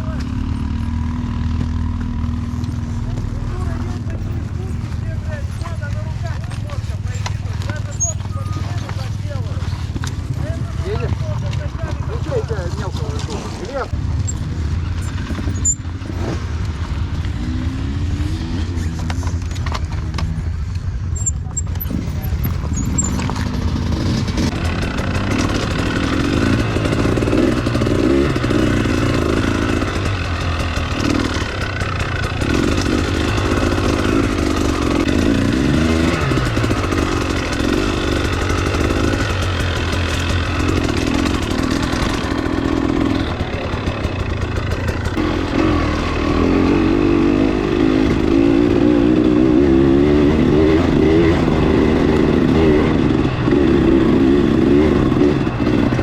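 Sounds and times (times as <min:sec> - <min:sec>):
motorcycle engine under throttle: 0:00.0 - 0:56.0.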